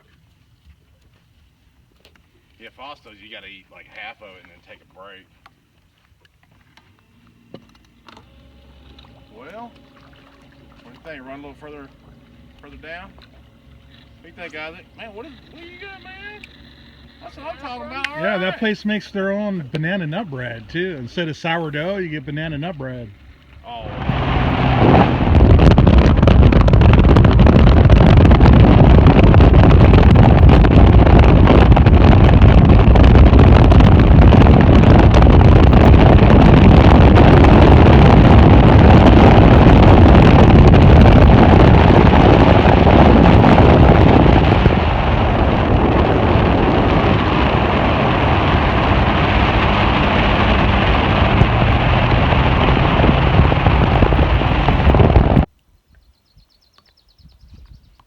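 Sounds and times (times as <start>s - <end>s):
boat motor running: 6.4s - 55.5s
wind buffeting microphone: 8.8s - 55.5s, 57.1s - 58.0s.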